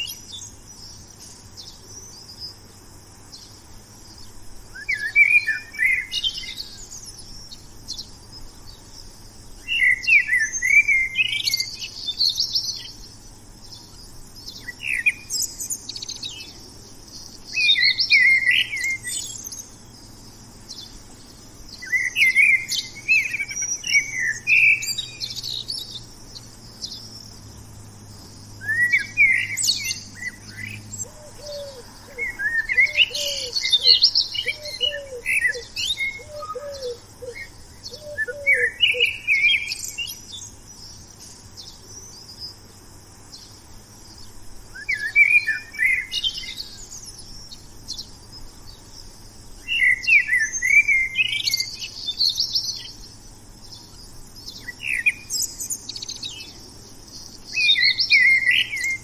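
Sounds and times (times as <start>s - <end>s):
songbirds twittering: 0.0s - 59.0s.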